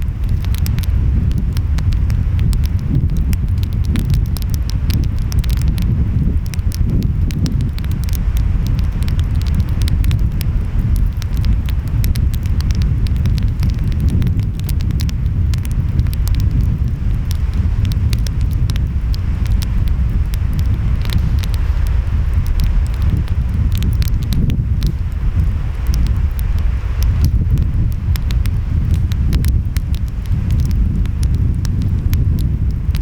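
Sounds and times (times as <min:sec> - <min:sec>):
wind: 0:00.0 - 0:33.0
wood fire crackling and popping: 0:00.0 - 0:33.0.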